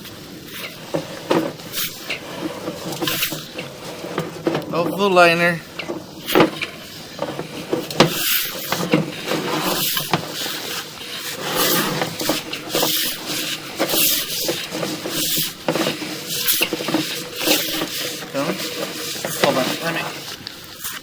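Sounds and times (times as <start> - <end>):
cable scraping through pipe: 0.0 - 21.0.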